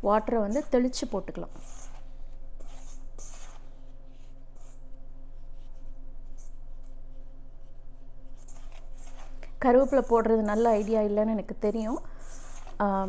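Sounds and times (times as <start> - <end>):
steady low hum: 0.0 - 13.0
fingers rubbing flour in bowl: 0.1 - 13.0.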